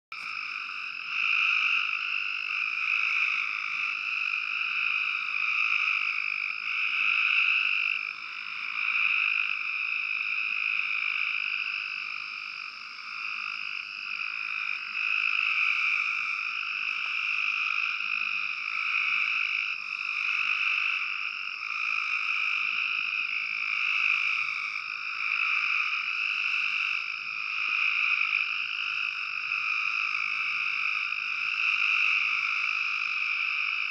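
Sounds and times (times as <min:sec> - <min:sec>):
treefrogs trilling: 0:00.2 - 0:33.9.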